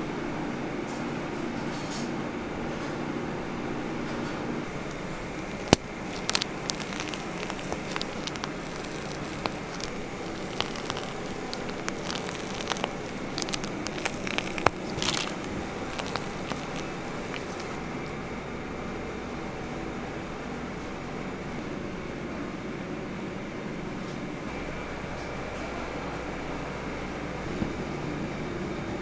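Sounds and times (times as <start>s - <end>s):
kitchen hum: 0.0s - 29.0s.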